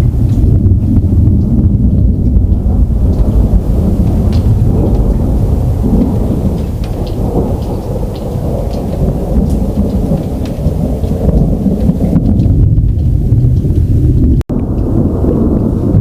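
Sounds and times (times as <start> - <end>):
rain falling: 0.0 - 16.0
raindrop ticks: 0.0 - 16.0
thunder rumbling: 0.0 - 16.0.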